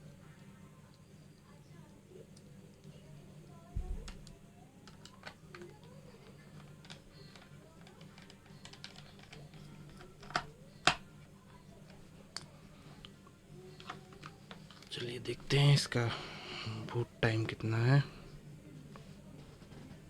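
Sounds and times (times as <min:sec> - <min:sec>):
faint background music: 0:00.0 - 0:20.0
low steady hum: 0:00.0 - 0:20.0.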